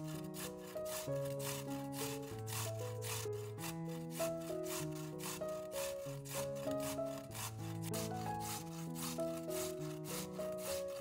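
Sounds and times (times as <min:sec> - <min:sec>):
even rasping stroke: 0:00.0 - 0:11.0
instrumental background music: 0:00.0 - 0:11.0.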